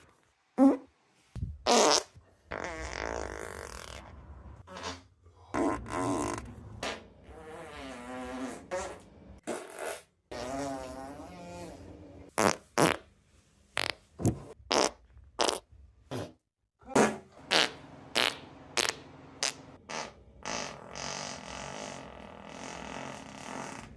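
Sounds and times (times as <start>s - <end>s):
farts: 1.7s - 13.0s, 14.7s - 16.4s, 17.0s - 23.9s.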